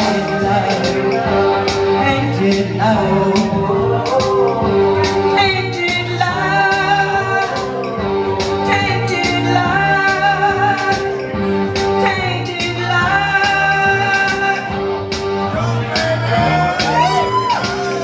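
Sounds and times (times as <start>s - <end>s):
person singing: 0.0s - 14.8s, 15.4s - 18.0s
music with drum beat: 0.0s - 18.0s.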